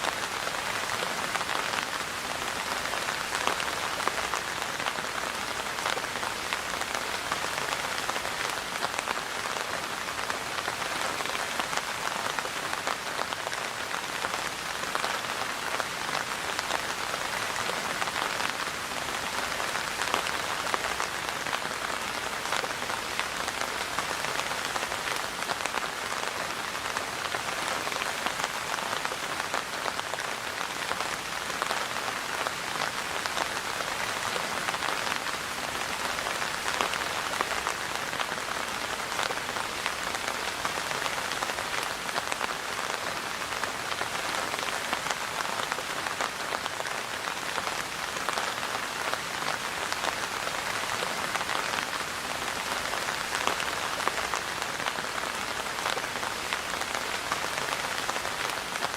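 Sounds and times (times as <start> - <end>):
rain pattering: 0.0 - 58.9.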